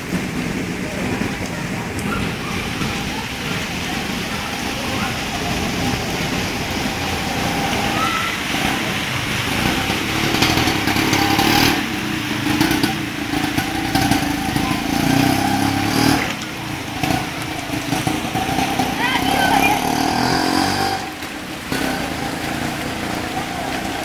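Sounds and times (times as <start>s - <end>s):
heavy rain falling: 0.0s - 24.0s
vehicle engine passing: 0.0s - 24.0s.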